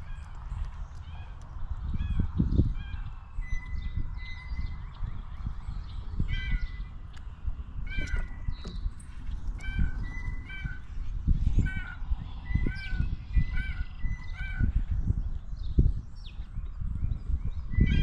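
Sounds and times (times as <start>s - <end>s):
birds calling nasally: 0.0s - 18.0s.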